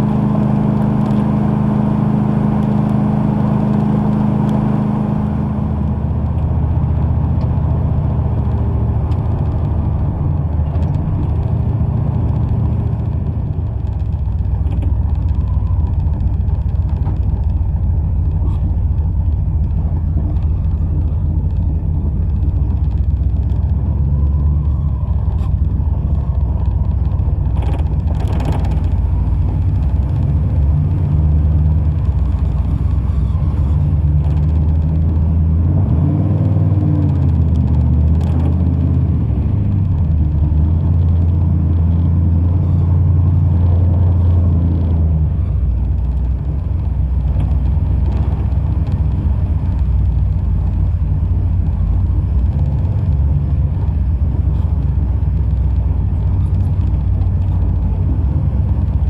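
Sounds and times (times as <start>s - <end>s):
truck engine rumbling: 0.0s - 59.0s.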